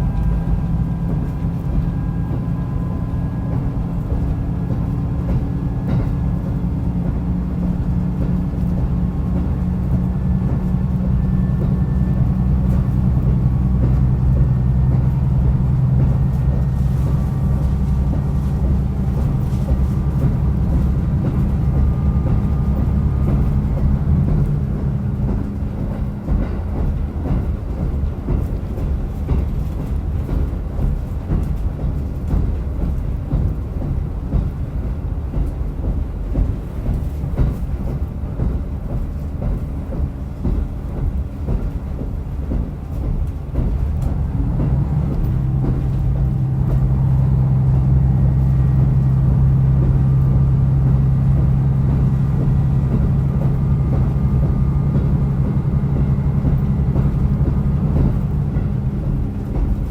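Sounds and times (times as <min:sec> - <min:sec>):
diesel railcar engine droning: 0:00.0 - 0:59.9
wheel and track noise: 0:00.0 - 0:59.9.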